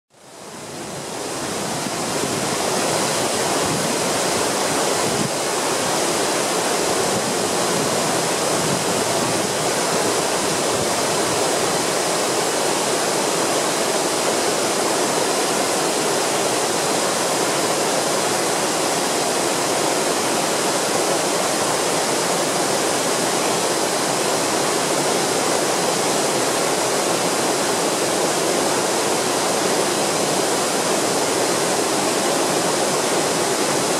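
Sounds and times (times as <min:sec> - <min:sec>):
waterfall rushing onto rocks: 0:00.2 - 0:33.9.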